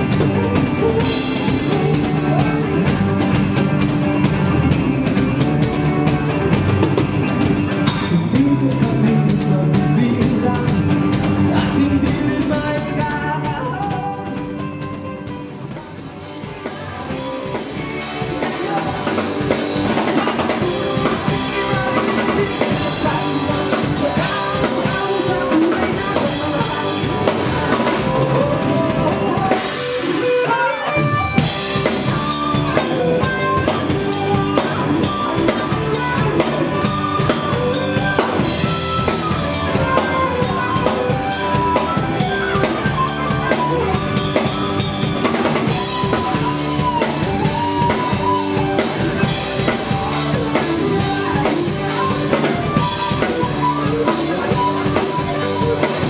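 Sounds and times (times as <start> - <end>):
drum kit steady beat: 0.0 - 56.0
live band playing: 0.0 - 56.0.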